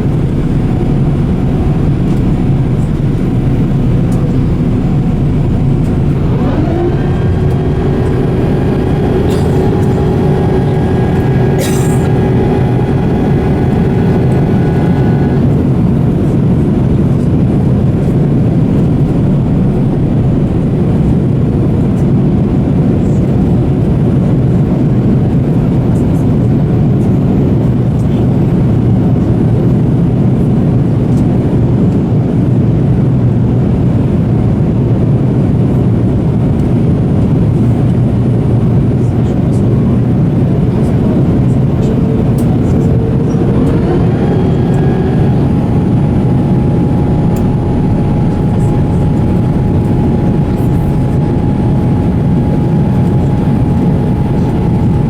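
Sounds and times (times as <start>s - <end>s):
airliner cabin rumble: 0.0s - 55.0s
mechanical whine: 0.0s - 55.0s.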